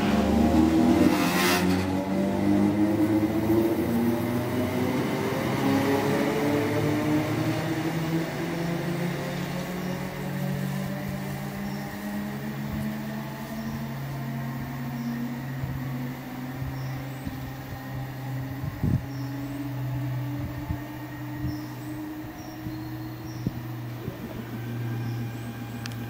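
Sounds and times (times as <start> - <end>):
electric train hum: 0.0 - 26.0.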